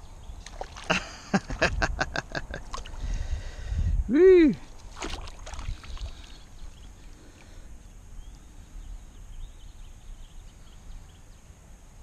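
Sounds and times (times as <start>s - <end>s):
low river rumble: 0.0s - 10.5s.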